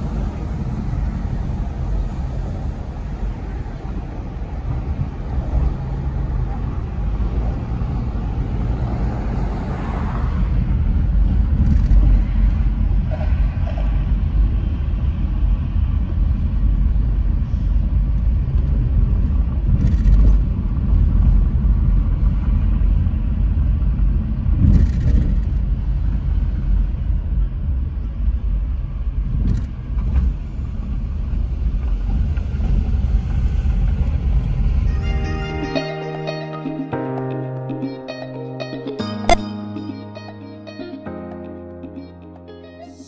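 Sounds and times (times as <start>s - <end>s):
car road noise: 0.0s - 43.0s.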